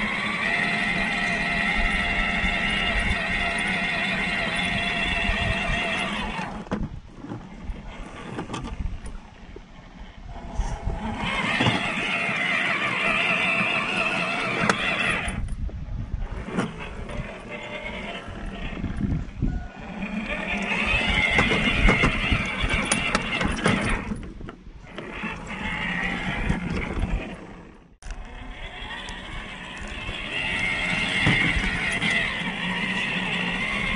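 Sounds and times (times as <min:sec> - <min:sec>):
rc truck motor whining: 0:00.0 - 0:33.9.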